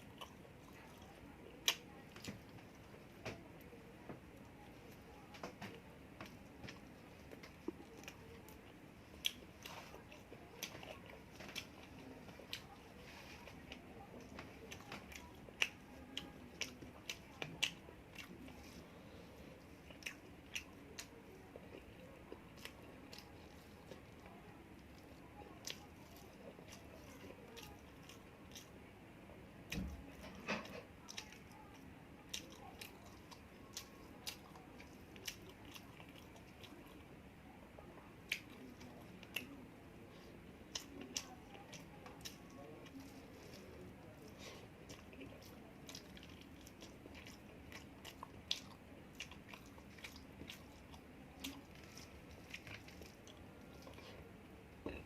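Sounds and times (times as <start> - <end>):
close chewing and eating: 0.0 - 55.0.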